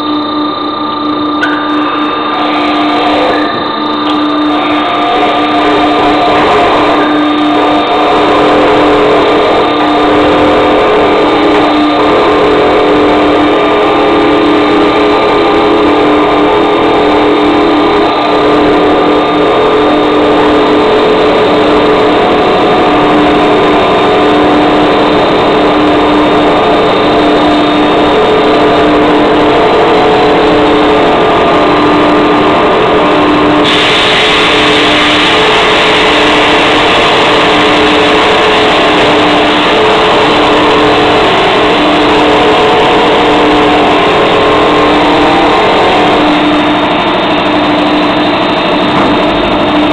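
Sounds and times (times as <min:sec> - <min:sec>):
machine mechanical hum: 0:00.0 - 0:49.9.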